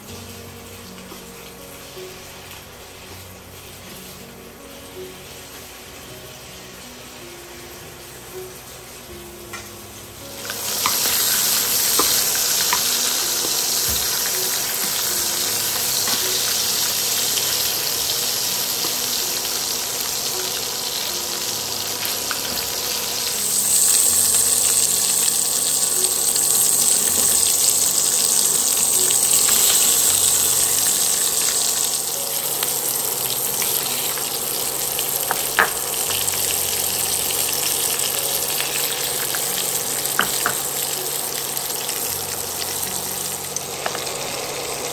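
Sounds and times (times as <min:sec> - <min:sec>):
meat sizzling in a pan: 0:00.0 - 0:44.9.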